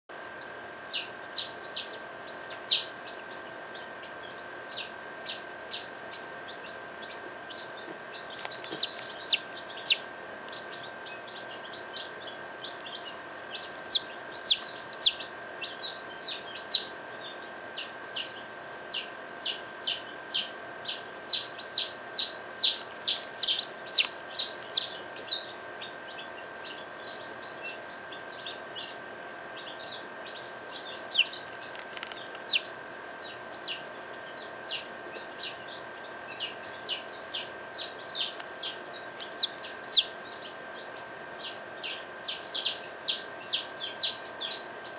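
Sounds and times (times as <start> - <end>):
chick peeping: 0.1 - 44.9
incubator hum: 0.1 - 44.9.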